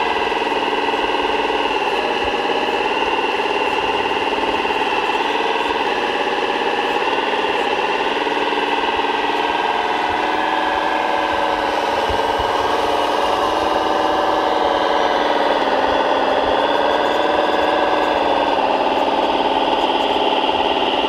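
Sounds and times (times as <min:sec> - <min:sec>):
model machines hum and whine: 0:00.0 - 0:21.0.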